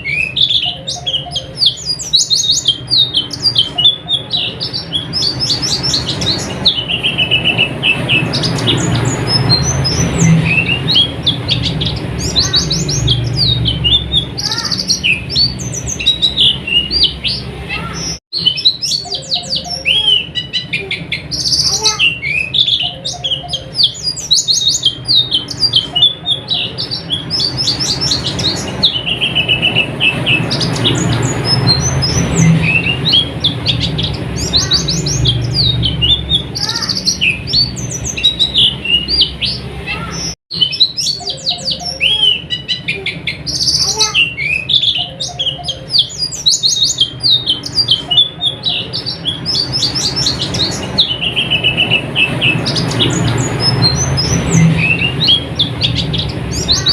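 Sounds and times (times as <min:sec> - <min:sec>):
bird twittering song: 0:00.0 - 0:56.9.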